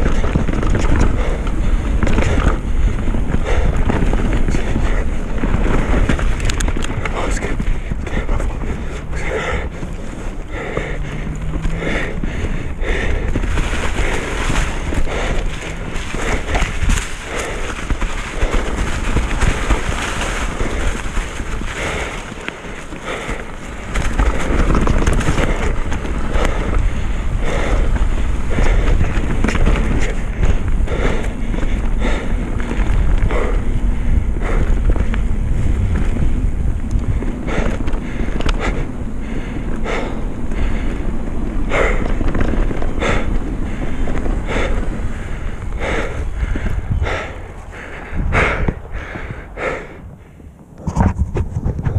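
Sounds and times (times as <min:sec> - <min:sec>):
bike rattling over bumps: 0:00.0 - 0:51.9
bike tyre noise: 0:00.0 - 0:51.9
wind rushing over microphone: 0:00.0 - 0:51.9.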